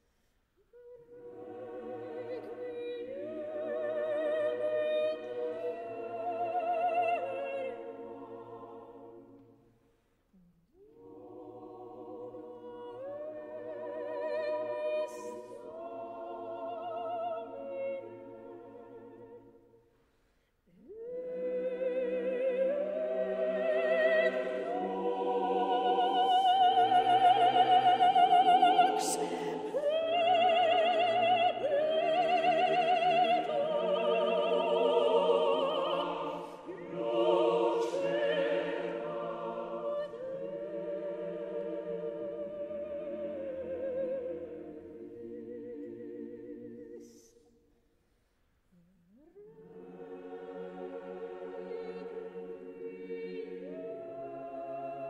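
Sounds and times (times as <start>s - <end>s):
choral singing: 0.6s - 10.0s, 10.7s - 47.8s, 49.2s - 55.0s.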